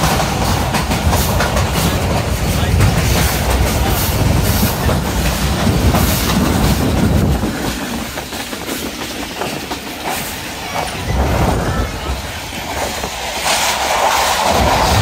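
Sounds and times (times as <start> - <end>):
heavy low train rumble: 0.0 - 15.0
wheels clattering over rail joints: 0.0 - 15.0.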